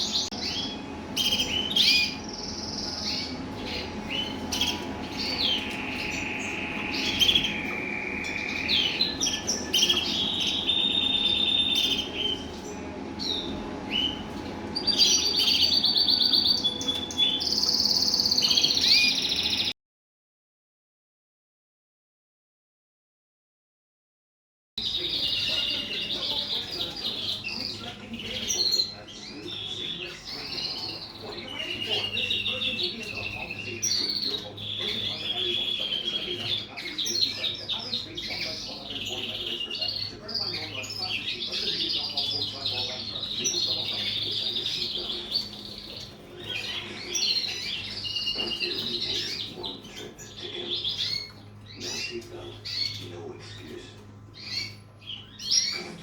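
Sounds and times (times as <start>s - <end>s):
canaries singing and chirping: 0.0s - 19.7s, 24.8s - 56.0s
steady low hum: 0.0s - 19.7s, 24.8s - 56.0s.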